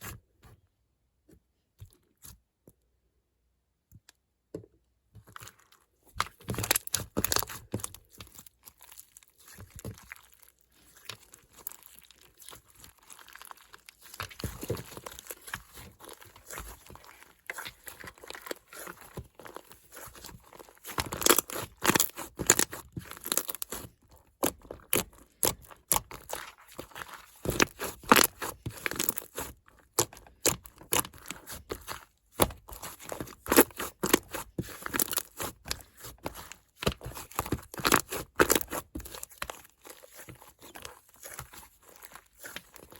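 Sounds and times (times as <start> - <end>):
slime squishing sticky crackles: 5.3 - 42.9.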